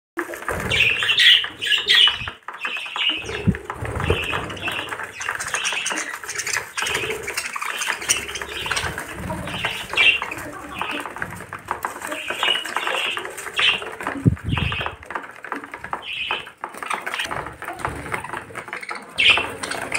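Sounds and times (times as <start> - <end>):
rustling: 0.2 - 19.9
budgerigars chirping: 0.5 - 11.1, 12.0 - 15.0, 16.0 - 17.4, 18.2 - 19.9
wing flaps: 3.1 - 19.9.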